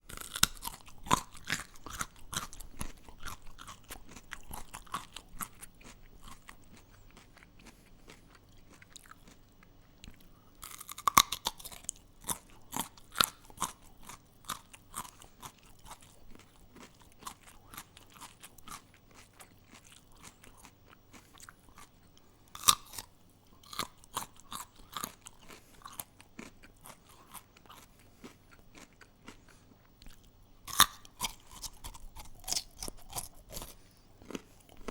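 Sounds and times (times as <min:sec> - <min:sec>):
carrot crunching chews: 0:00.0 - 0:34.9.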